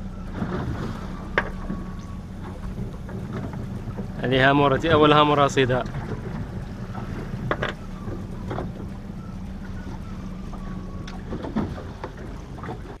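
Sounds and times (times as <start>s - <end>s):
boat engine humming: 0.0s - 13.0s
gear knocks and clicks: 1.3s - 13.0s.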